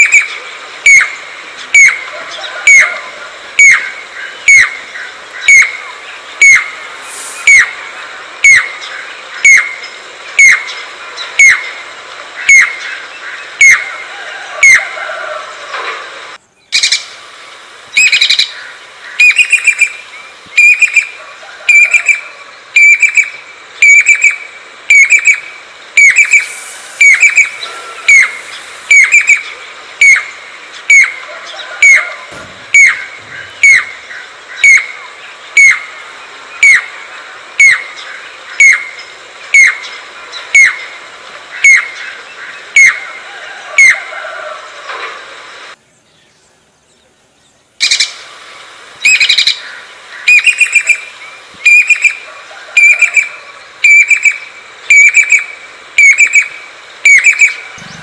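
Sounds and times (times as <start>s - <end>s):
cuckoo calling: 0.0s - 16.0s, 16.6s - 45.3s, 47.8s - 58.0s.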